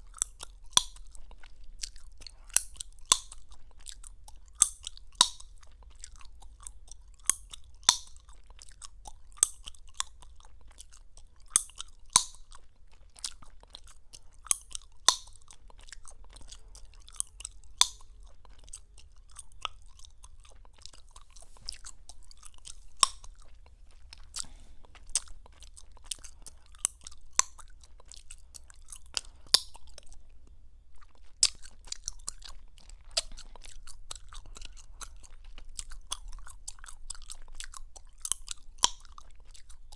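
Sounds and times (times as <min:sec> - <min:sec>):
gum pops and clicks: 0:00.0 - 0:30.2, 0:31.0 - 0:39.9
gum chewing wet smacking: 0:00.0 - 0:39.9.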